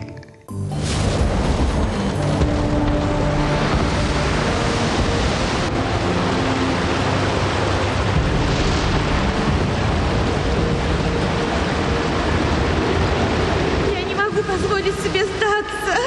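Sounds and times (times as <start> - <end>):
driving rain: 0.6 - 16.0
wind: 0.7 - 16.0.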